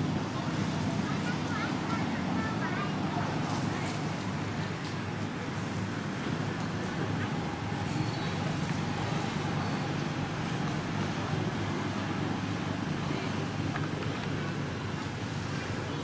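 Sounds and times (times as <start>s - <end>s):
low rumble of motor traffic: 0.0s - 16.0s.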